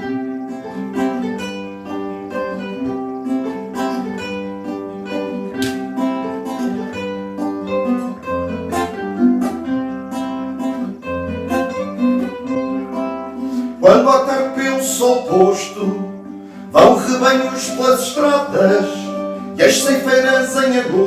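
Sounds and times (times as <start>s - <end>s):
instrumental folk guitar music: 0.0s - 21.0s.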